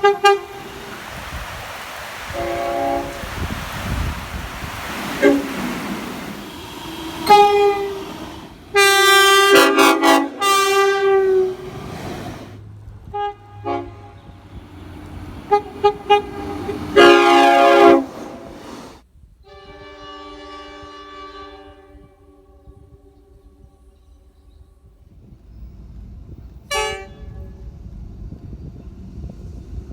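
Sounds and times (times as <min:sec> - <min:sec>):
train horn blasts: 0:00.0 - 0:01.3, 0:02.1 - 0:24.3, 0:26.6 - 0:27.7.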